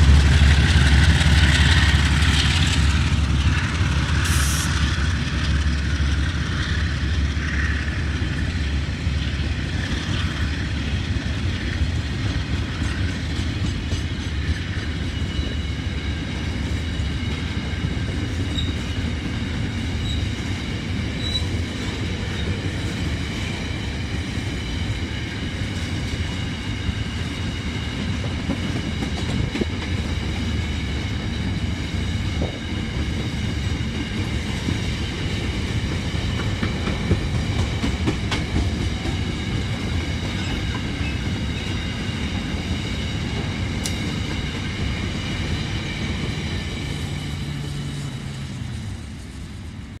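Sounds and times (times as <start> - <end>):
freight train rumbling past: 0.0 - 50.0.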